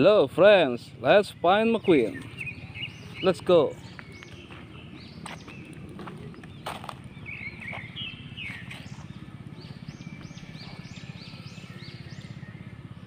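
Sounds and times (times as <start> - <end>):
low pulsing hum: 0.0 - 13.0
small birds chirping: 0.0 - 13.0.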